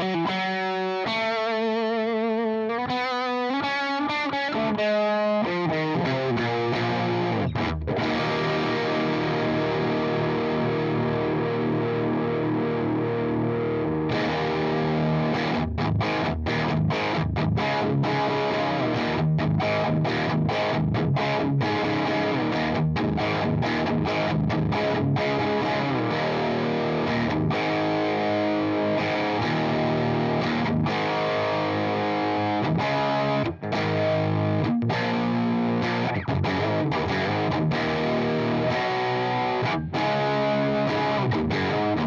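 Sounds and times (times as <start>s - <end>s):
overdriven electric guitar chords: 0.0s - 42.0s.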